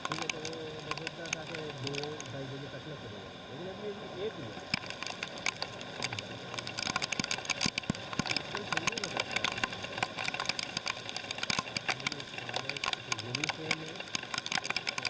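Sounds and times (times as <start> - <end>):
raindrops tapping: 0.0 - 2.8, 4.3 - 15.0
faint steady hum: 0.0 - 15.0.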